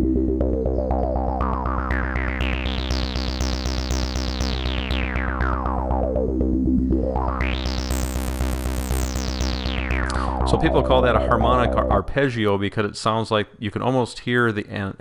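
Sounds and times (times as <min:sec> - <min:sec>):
synthesizer filter sweep: 0:00.0 - 0:12.2.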